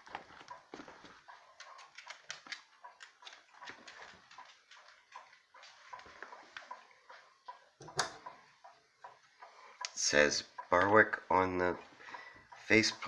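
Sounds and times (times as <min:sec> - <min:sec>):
clock ticking: 0:00.4 - 0:13.0.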